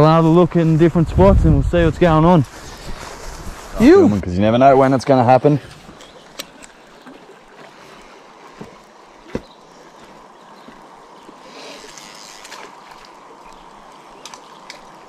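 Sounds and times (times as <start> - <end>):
river water flowing: 2.5 - 15.0.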